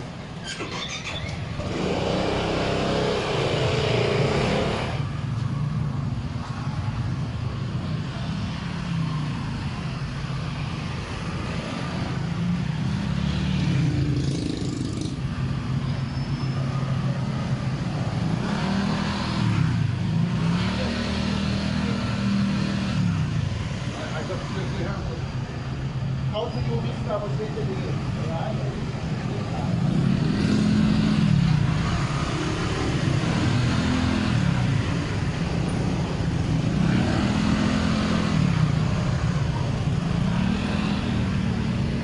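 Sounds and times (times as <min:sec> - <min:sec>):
car engines passing: 0:00.0 - 0:42.0
motorbike engines passing: 0:00.0 - 0:42.0.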